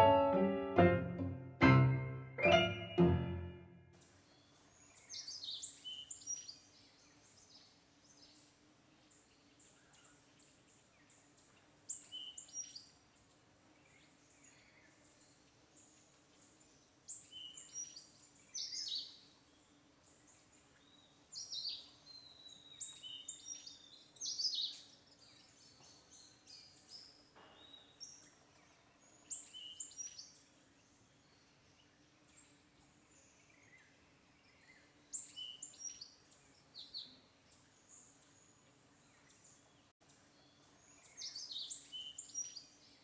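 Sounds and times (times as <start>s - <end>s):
small birds chirping: 0.0s - 1.0s, 4.0s - 43.0s.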